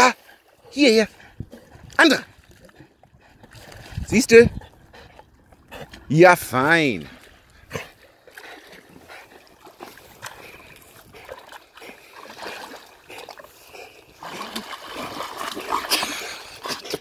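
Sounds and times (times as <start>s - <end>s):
water splashing around swimming dog: 0.0s - 17.0s.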